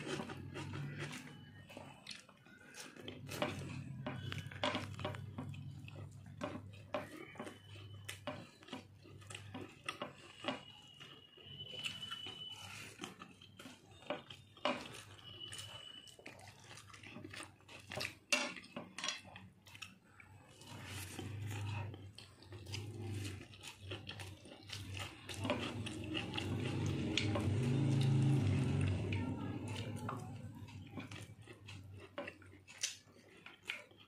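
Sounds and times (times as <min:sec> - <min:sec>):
chewing with full mouth: 0:00.0 - 0:34.0.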